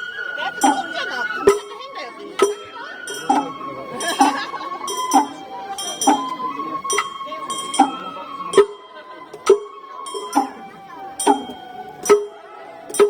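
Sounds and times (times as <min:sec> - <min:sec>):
bamboo flute: 0:00.0 - 0:13.0
drum and gong strikes: 0:00.0 - 0:13.0.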